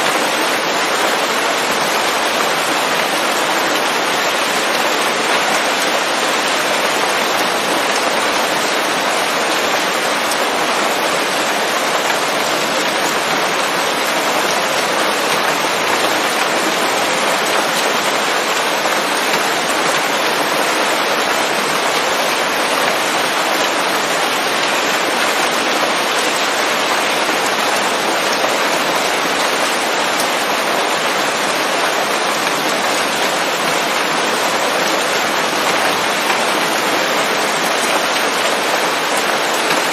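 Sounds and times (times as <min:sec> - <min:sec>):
rain on leafy foliage: 0:00.0 - 0:39.9.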